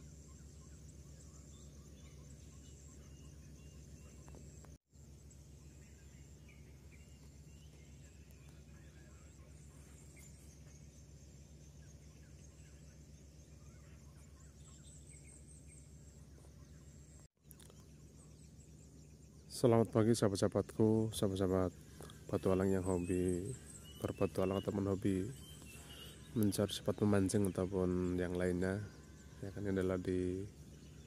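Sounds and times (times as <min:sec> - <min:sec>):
bird calls: 0:00.0 - 0:31.0
low hum: 0:00.0 - 0:31.0.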